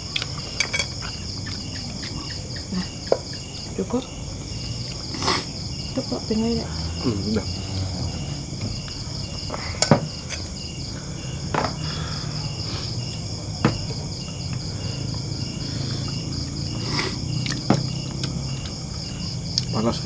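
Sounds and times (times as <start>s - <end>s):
crickets and insects trilling: 0.0s - 20.0s.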